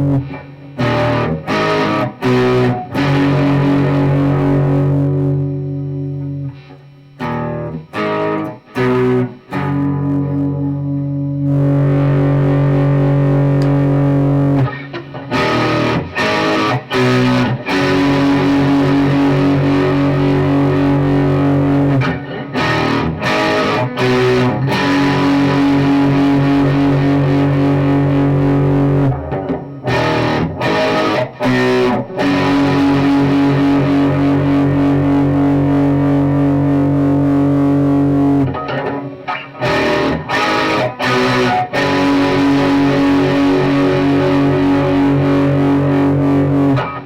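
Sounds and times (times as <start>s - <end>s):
distorted electric guitar chords: 0.0s - 47.0s.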